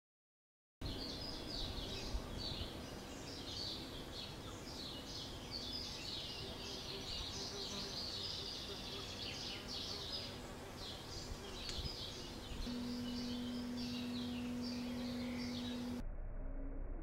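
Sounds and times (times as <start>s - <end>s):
small birds chirping: 0.8s - 16.0s
faint low hum: 0.8s - 17.0s.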